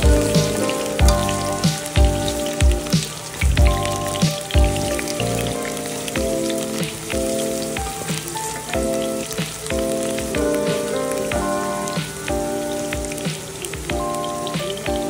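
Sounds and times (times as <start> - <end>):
background music with steady beat: 0.0 - 15.0
vegetable slices frying in oil: 0.0 - 15.0.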